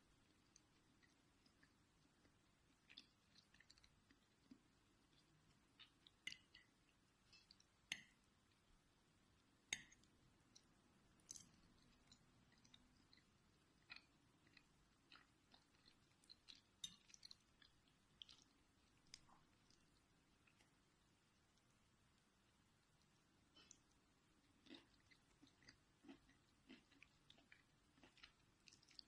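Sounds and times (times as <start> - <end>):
chewing food: 0.1 - 8.7, 9.4 - 29.0.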